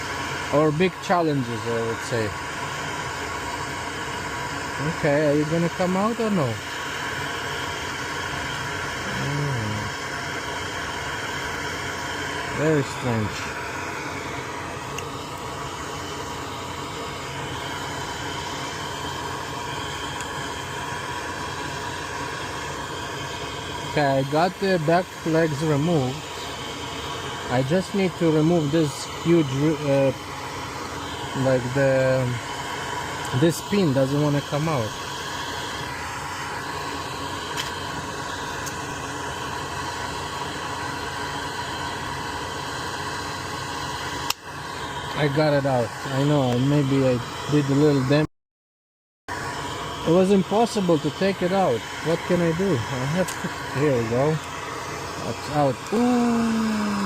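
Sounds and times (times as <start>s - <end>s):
fan-like air hiss: 0.0s - 48.3s, 49.3s - 57.0s.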